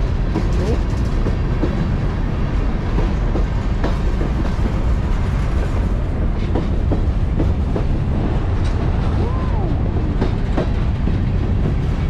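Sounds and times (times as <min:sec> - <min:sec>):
train wheels clattering over rail joints: 0:00.0 - 0:09.2, 0:09.8 - 0:12.0.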